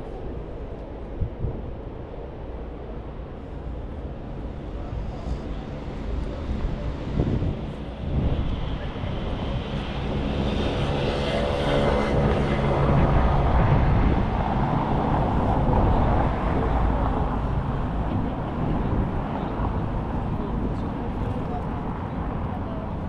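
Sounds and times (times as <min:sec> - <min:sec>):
passing vehicle engine rumble: 0:00.0 - 0:23.0
street noise: 0:00.0 - 0:23.0.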